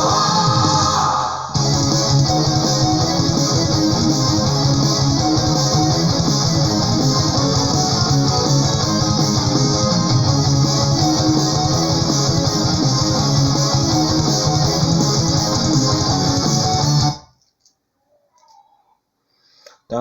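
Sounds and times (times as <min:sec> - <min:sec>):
metal music with electric guitars: 0:00.0 - 0:17.2.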